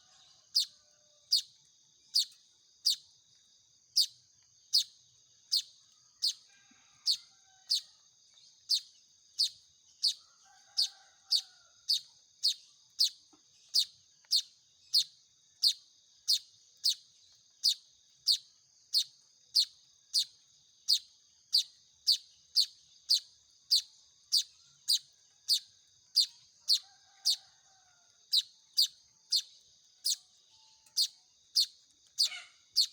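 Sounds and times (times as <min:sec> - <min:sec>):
bird chick chirping: 0:00.0 - 0:01.5, 0:04.0 - 0:27.5, 0:28.3 - 0:32.9.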